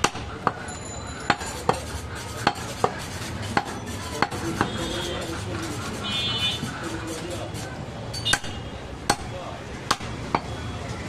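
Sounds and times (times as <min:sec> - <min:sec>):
knife chopping meat on wood: 0:00.0 - 0:00.6, 0:01.3 - 0:06.0, 0:06.6 - 0:10.5.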